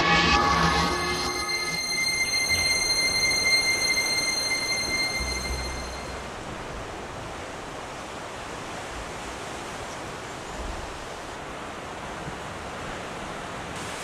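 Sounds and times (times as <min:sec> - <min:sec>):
ocean surf rushing on shore: 0:00.0 - 0:14.0.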